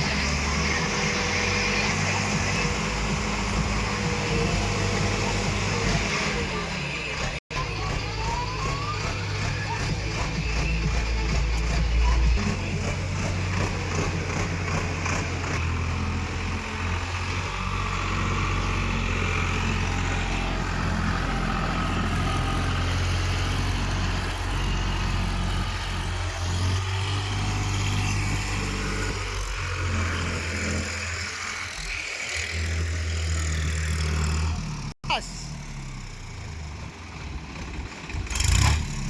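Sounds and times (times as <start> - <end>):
heavy machinery diesel engine: 0.0 - 39.0.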